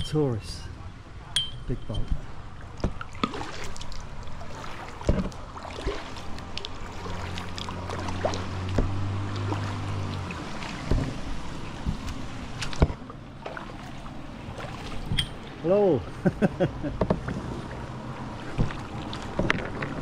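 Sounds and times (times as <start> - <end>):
motor boat engine hum: 0.0 - 20.0
kayak paddle knocks and splashes: 1.9 - 15.6, 16.8 - 20.0.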